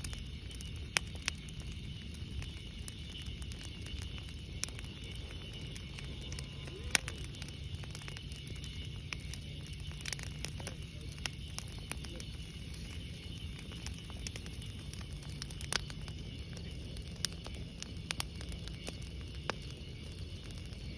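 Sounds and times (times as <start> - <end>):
bonfire burning: 0.0 - 20.9
fire pops and crackles: 0.0 - 20.9.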